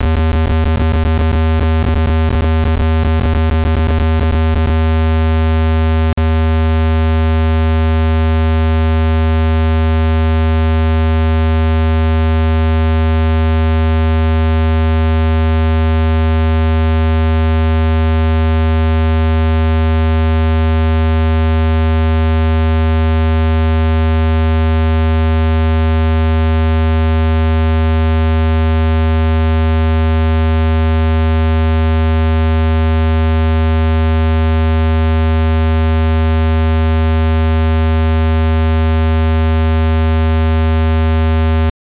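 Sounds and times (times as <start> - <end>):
loud low electronic tone: 0.0 - 18.4, 25.2 - 41.7.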